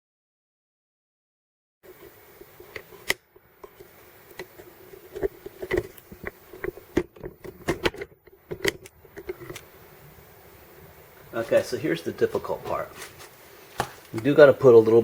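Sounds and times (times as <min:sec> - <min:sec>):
faint steady hum: 0:01.8 - 0:15.0.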